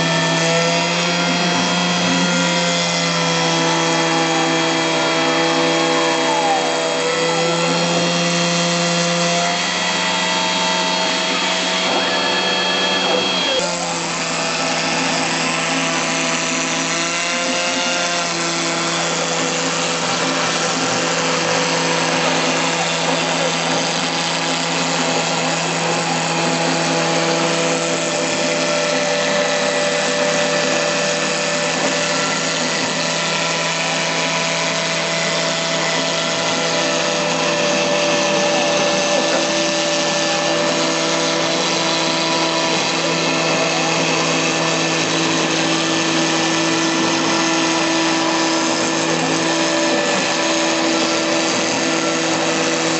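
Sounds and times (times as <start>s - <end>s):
cnc router spindle whining: 0.0s - 52.9s.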